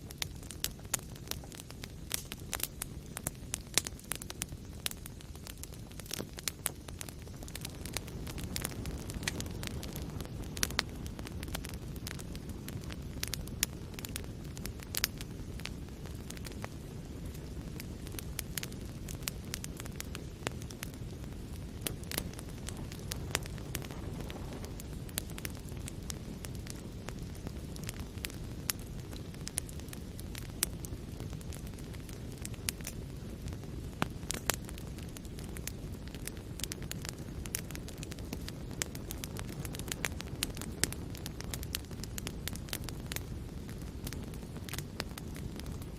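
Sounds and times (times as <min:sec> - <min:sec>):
fire crackling and popping: 0:00.0 - 0:45.9
fire flames rumbling: 0:00.0 - 0:45.9.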